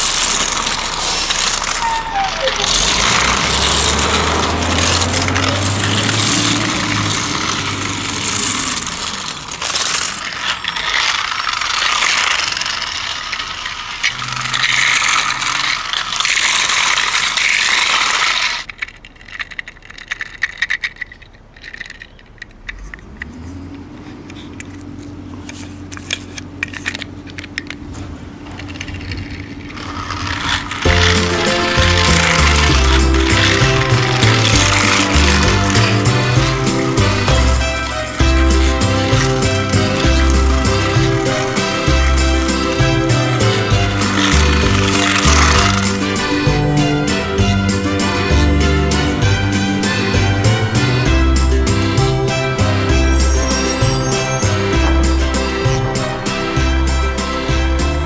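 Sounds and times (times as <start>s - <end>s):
low motor hum: 0.0s - 20.3s, 21.0s - 58.0s
plastic wheels clattering: 0.0s - 58.0s
toy truck gears whirring: 0.0s - 58.0s.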